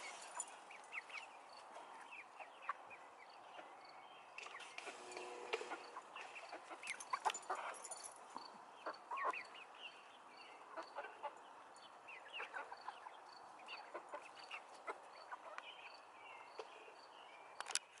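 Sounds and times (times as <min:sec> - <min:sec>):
chickens clucking: 0:00.0 - 0:03.8, 0:04.4 - 0:09.8, 0:10.6 - 0:16.7.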